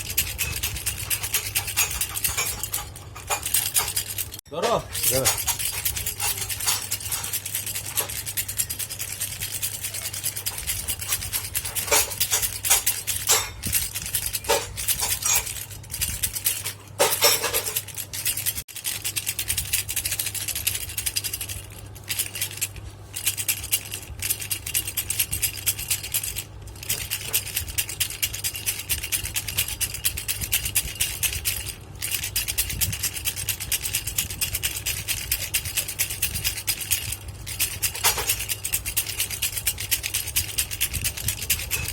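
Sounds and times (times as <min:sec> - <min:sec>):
baby rattle shaken: 0:00.0 - 0:41.9
steady low hum: 0:00.0 - 0:41.9.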